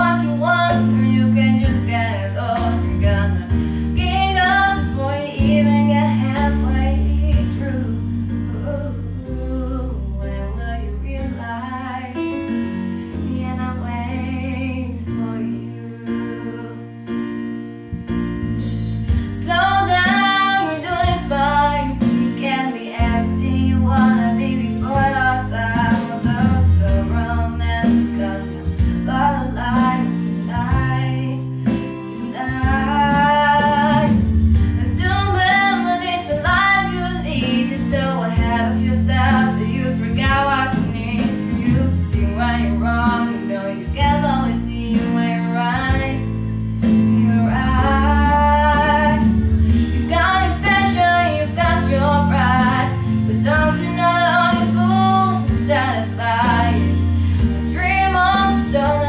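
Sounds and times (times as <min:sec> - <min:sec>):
young woman singing: 0:00.0 - 0:17.3, 0:18.4 - 0:49.4, 0:50.0 - 0:59.0
instrumental accompaniment: 0:00.0 - 0:59.0.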